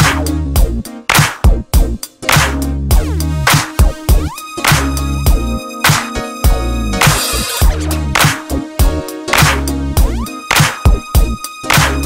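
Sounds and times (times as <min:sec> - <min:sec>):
bass line: 0:00.0 - 0:12.0
drum beat: 0:00.0 - 0:12.0.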